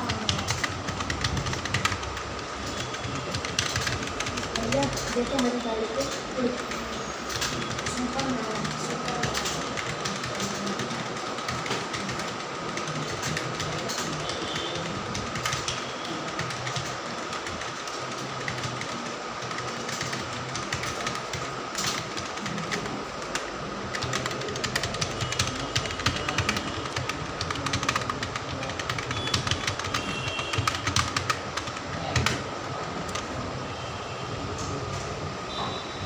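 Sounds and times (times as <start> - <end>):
keyboard typing clicks: 0.0 - 32.4.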